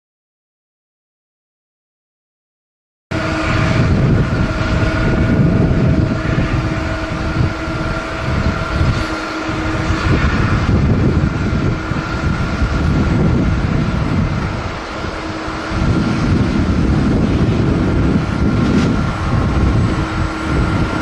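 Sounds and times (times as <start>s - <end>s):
jet engines whining: 3.1s - 21.0s
wind rumble on microphone: 3.1s - 21.0s.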